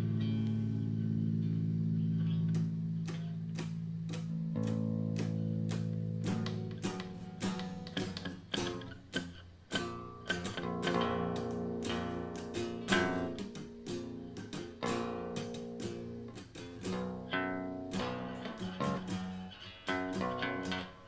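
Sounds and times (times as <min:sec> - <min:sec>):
guitar chords plucked and strummed: 0:00.0 - 0:21.0.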